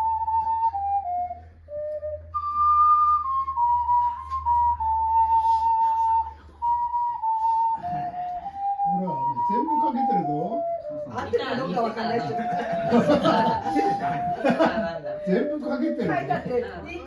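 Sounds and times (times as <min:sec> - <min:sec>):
ocarina melody: 0:00.0 - 0:17.0.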